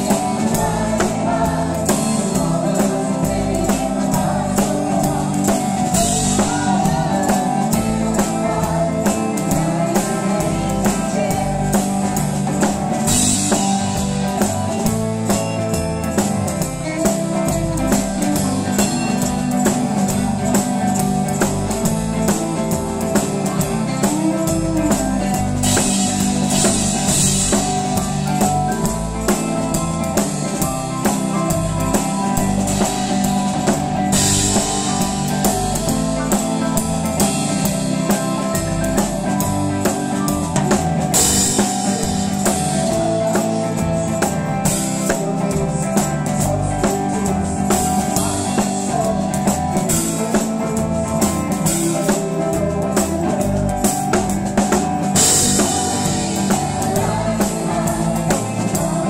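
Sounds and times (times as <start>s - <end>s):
drum kit beat: 0.0s - 59.0s
electric guitar: 0.0s - 59.0s.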